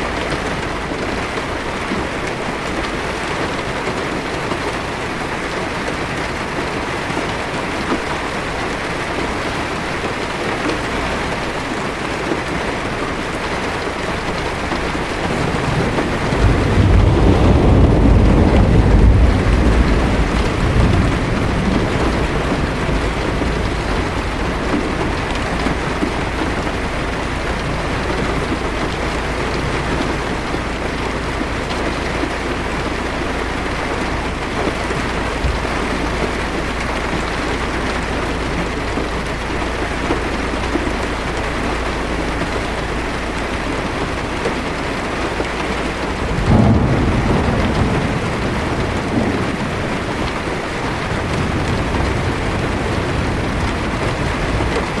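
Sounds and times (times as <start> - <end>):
heavy rain on windshield: 0.0 - 55.0
thunder rumble: 0.0 - 55.0.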